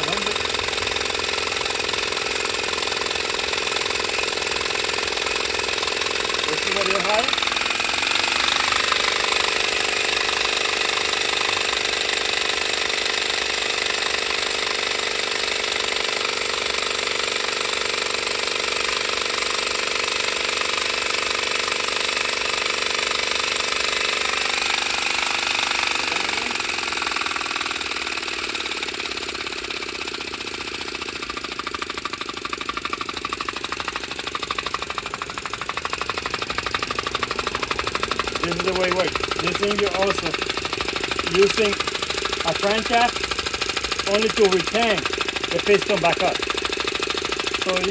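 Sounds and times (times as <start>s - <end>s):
engine mechanical rattle: 0.0s - 47.9s.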